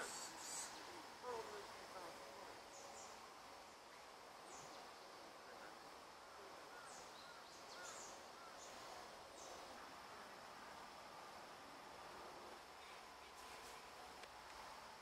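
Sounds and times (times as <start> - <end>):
low forest hiss: 0.0 - 15.0.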